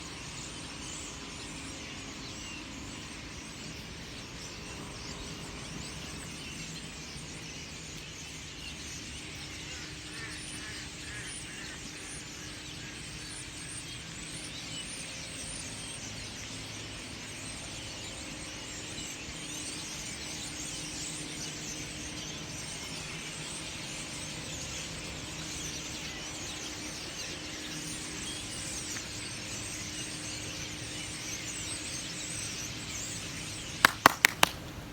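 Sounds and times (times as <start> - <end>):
flock of birds chirping: 0.0 - 34.9.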